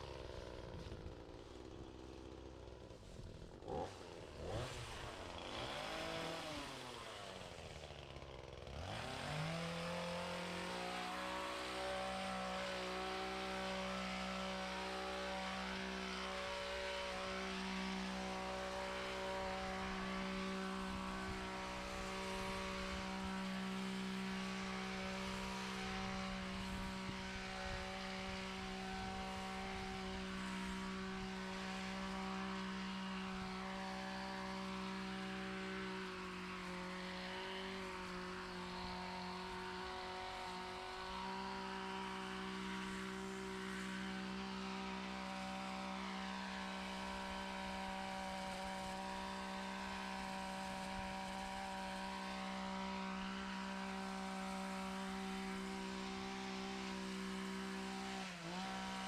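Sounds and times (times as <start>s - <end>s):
small gasoline engine droning: 0.0s - 59.0s.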